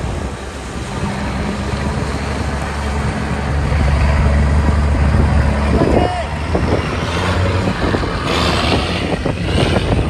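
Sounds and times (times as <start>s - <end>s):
truck diesel engine under load: 0.0s - 10.0s
water splashing around tyres: 0.0s - 10.0s.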